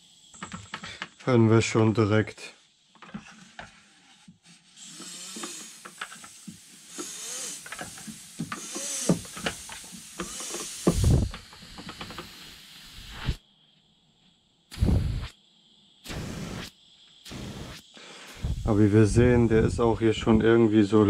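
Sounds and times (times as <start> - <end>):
air hissing from inner tube: 0.0 - 1.2, 2.6 - 13.7, 14.7 - 19.9.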